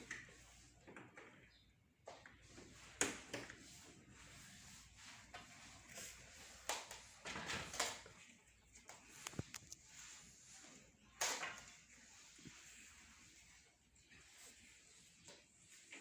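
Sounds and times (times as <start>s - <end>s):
knocks and scrapes of handling: 0.0s - 16.0s.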